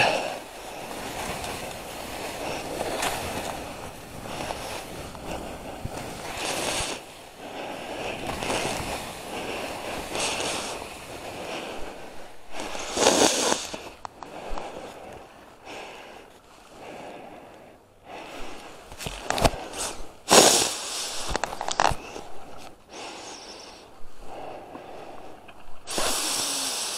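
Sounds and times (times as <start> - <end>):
skis swishing through snow: 0.0 - 17.3, 18.2 - 26.9.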